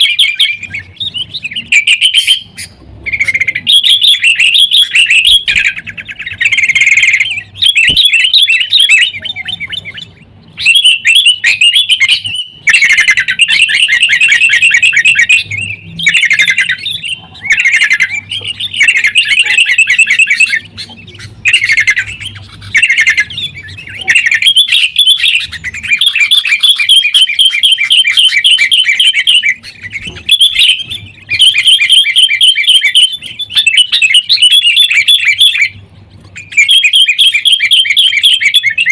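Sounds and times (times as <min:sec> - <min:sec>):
birds chattering trills: 0:00.0 - 0:38.9.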